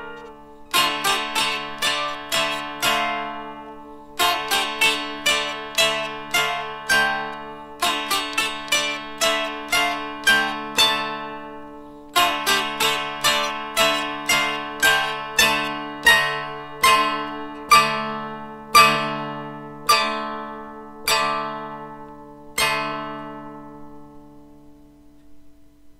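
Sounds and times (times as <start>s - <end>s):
dulcimer plucked melody: 0.0s - 25.5s.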